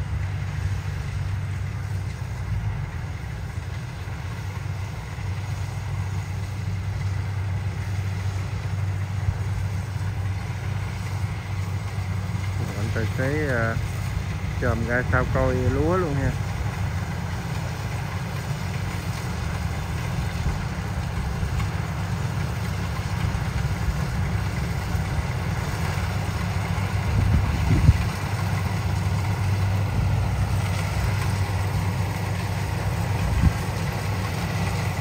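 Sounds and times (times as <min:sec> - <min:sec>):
diesel engine hum: 0:00.0 - 0:35.0
machinery clatter: 0:00.4 - 0:35.0.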